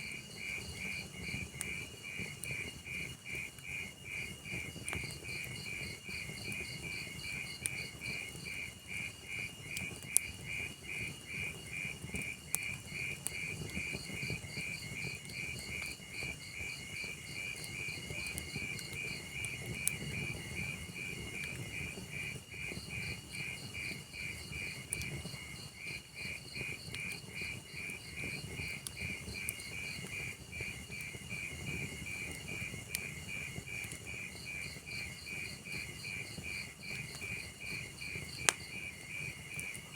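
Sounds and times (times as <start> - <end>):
cricket chirping: 0.0 - 39.9
log fire rustling: 0.1 - 39.9
burning wood crackling pops: 0.2 - 39.9.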